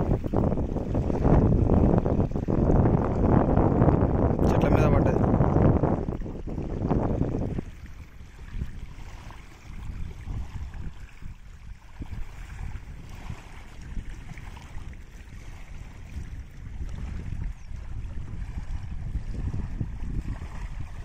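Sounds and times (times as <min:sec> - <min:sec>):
small waves lapping: 0:00.0 - 0:03.3, 0:05.8 - 0:21.0
wind noise on microphone: 0:00.0 - 0:21.0.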